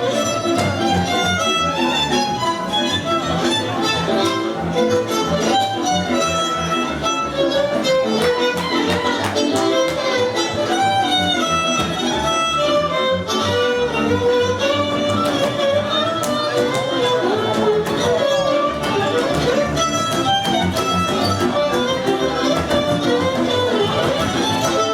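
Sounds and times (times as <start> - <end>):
rhythmic string accompaniment: 0.0 - 24.9
violin melody with pitch slides: 0.0 - 24.9.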